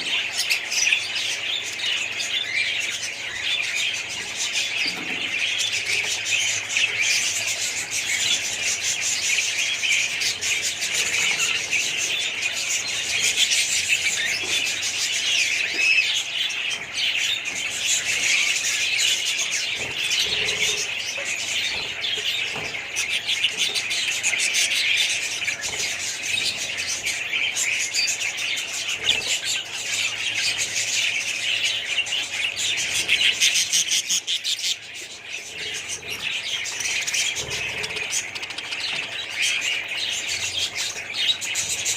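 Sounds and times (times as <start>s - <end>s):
budgerigars chirping and chattering: 0.0s - 41.9s.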